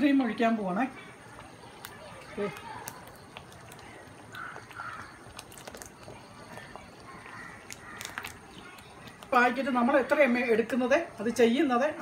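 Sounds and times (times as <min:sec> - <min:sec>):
gravy simmering: 0:00.0 - 0:12.0.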